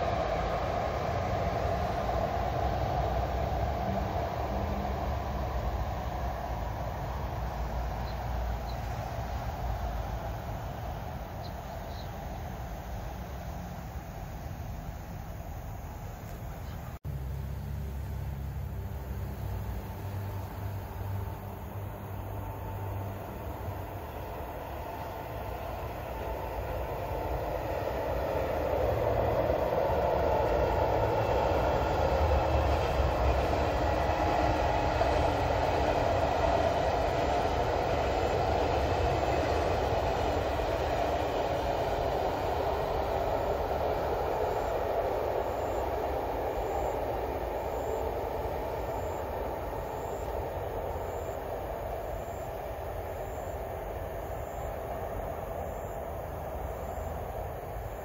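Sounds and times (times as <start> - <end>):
high-speed train passing: 0.0 - 58.0.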